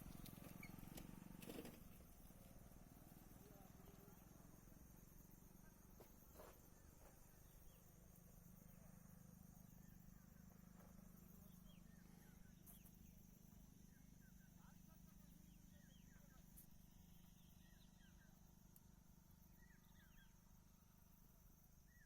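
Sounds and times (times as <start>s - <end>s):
faint chirps: 0.0s - 22.0s.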